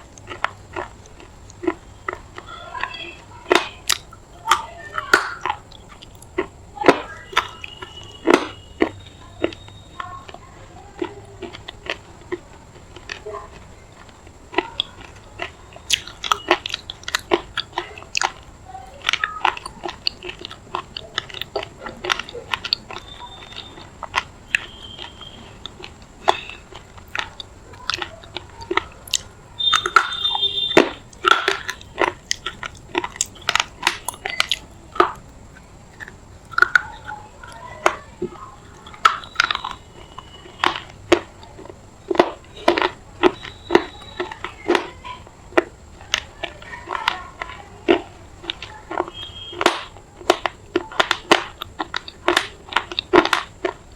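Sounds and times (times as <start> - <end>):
crunching clay: 0.0 - 53.9.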